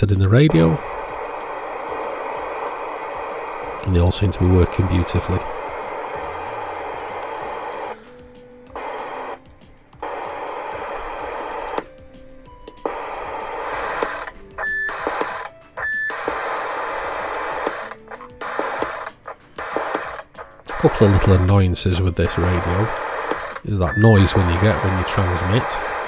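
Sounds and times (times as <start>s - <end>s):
high radio beeps: 0.0s - 26.0s
radio static hiss: 0.0s - 26.0s
radio switch click and chirp: 0.0s - 26.0s.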